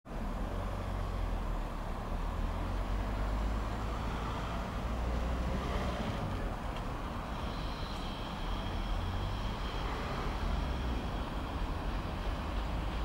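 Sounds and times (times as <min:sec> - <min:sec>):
diesel locomotive engine rumble: 0:00.1 - 0:13.0.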